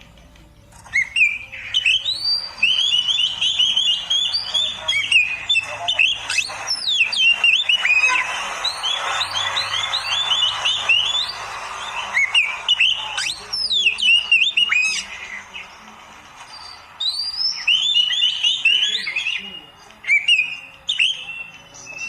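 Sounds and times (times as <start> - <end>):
bird singing whistles and chirps: 0.8 - 15.8, 16.4 - 22.0.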